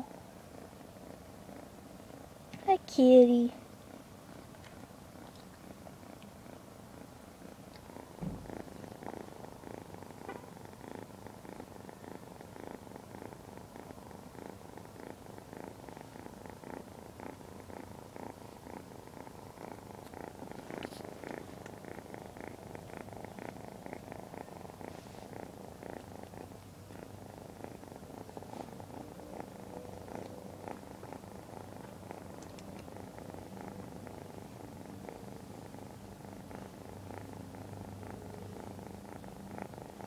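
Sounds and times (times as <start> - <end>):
kitten purring: 0.0 - 40.0.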